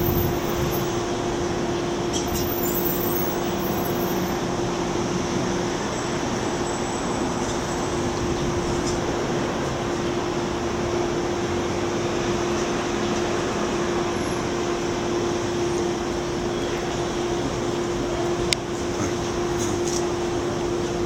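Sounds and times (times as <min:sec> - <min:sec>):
subway train hum and rush: 0:00.0 - 0:21.0.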